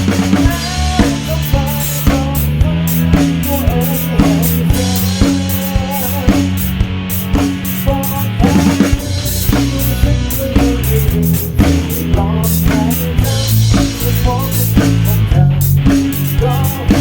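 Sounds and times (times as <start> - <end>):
drum kit beat: 0.0 - 17.0
guitar melody: 0.0 - 17.0.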